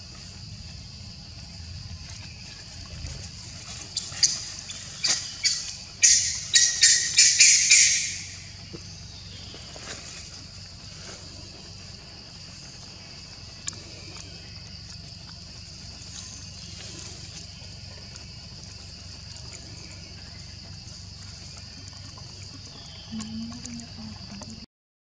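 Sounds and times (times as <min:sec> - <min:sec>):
high-pitched insect drone: 0:00.0 - 0:21.7, 0:22.7 - 0:24.7.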